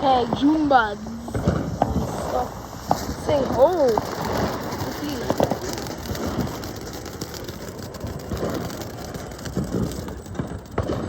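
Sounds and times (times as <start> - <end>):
firework hissing and crackling: 0.0 - 11.0.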